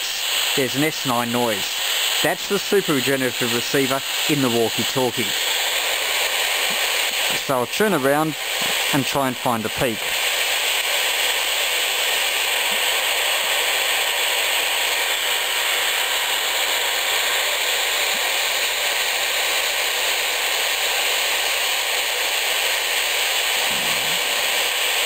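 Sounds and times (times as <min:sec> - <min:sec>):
steady radio hiss: 0:00.0 - 0:25.0.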